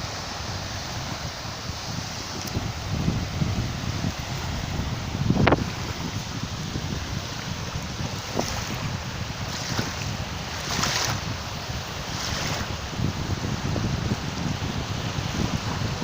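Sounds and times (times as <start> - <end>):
waves washing in: 0.0 - 16.0
wind buffeting microphone: 0.0 - 16.0.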